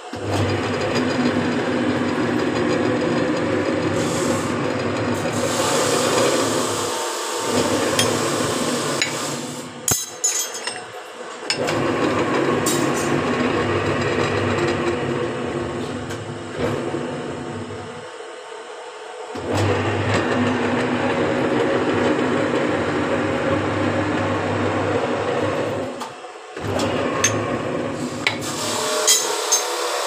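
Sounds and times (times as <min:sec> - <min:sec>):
bending machine grinding steel bar: 0:00.0 - 0:18.0, 0:19.4 - 0:30.0.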